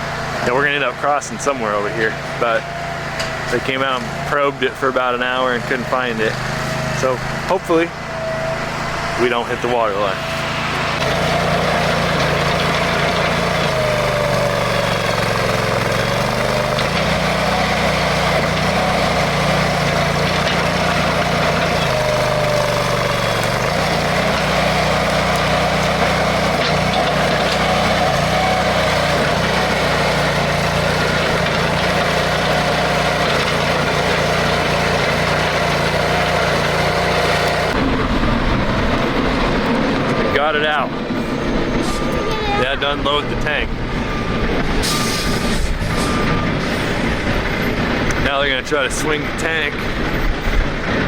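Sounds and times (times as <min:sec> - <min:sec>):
digging machine diesel engine: 0:00.0 - 0:51.0.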